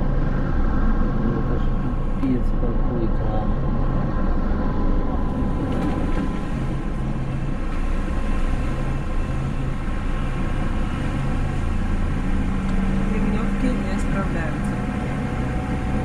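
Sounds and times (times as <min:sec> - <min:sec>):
trolleybus rumble: 0:00.0 - 0:16.0.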